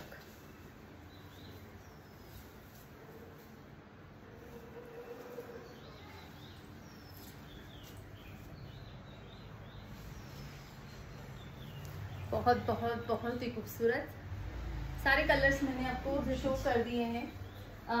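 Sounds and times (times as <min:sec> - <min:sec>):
small birds chirping: 0:00.0 - 0:03.7, 0:04.4 - 0:18.0.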